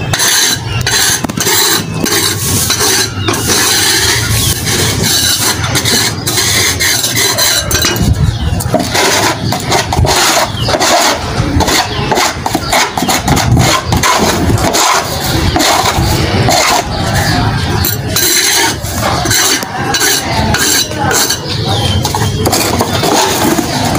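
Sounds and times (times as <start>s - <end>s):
hand tool scraping brick floor: 0.0s - 23.9s.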